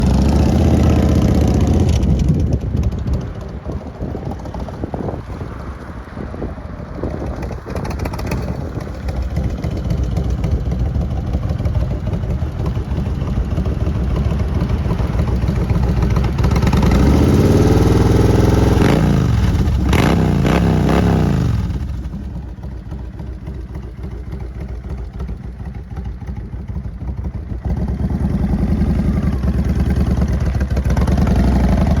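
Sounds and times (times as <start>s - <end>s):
motorcycle engine revving: 0.0s - 5.2s, 6.4s - 32.0s.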